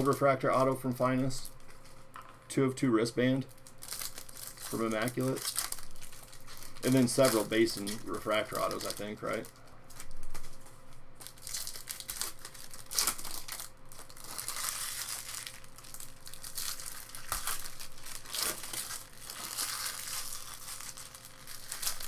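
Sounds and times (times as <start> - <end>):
foil wrappers crinkling: 0.0 - 2.4, 3.4 - 22.0.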